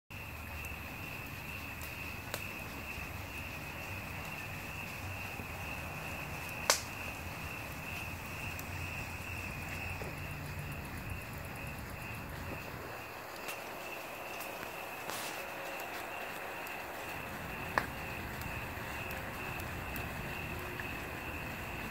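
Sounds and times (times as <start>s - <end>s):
crickets trilling: 0.1s - 21.9s
wood fire crackling: 0.1s - 21.9s
fire popping: 0.2s - 21.9s.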